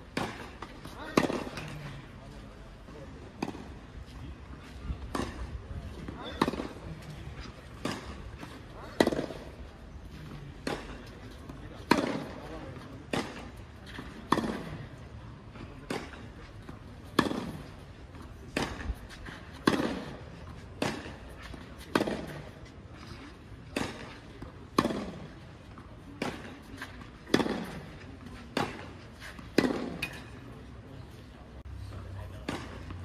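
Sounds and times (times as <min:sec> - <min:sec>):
tennis ball hit with rackets: 0:00.1 - 0:01.9, 0:03.3 - 0:09.7, 0:10.3 - 0:30.5, 0:32.3 - 0:33.0.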